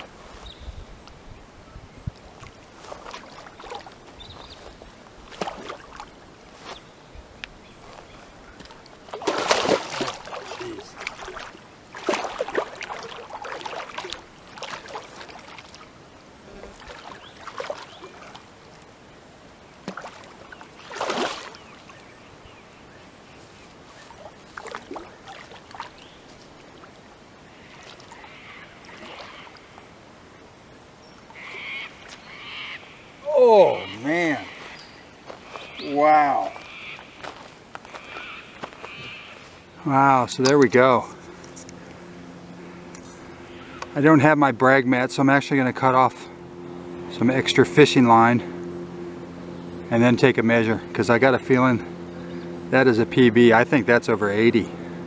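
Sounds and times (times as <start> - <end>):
water trickling: 0.0 - 22.8, 23.7 - 55.0
water splashing and sloshing: 0.0 - 55.0.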